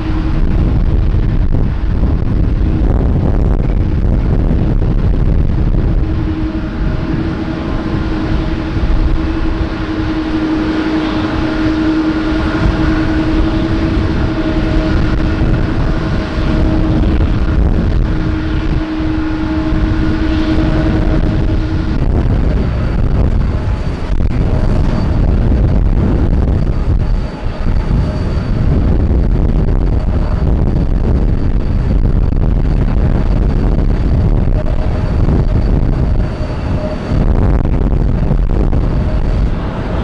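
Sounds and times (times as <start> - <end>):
jet engines humming: 0.0 - 40.0
wind buffeting microphone: 0.0 - 40.0.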